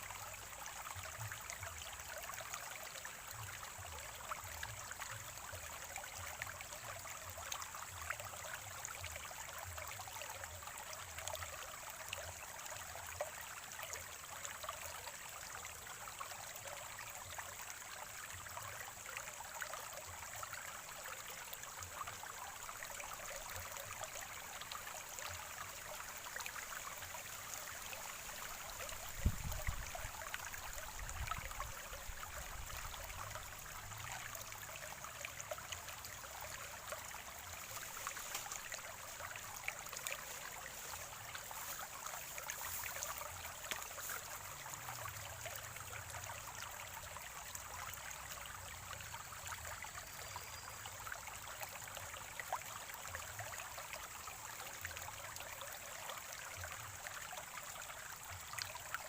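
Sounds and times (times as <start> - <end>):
stream trickling over rocks: 0.0 - 59.0.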